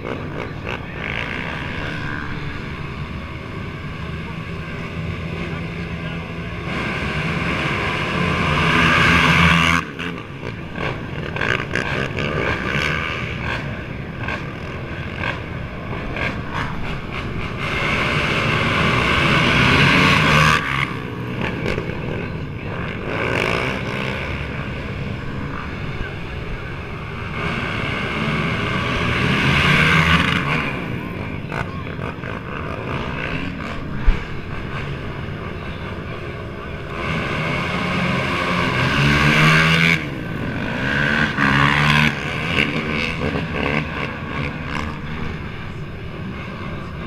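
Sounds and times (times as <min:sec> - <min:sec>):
racing atv engines revving: 0:00.0 - 0:47.0.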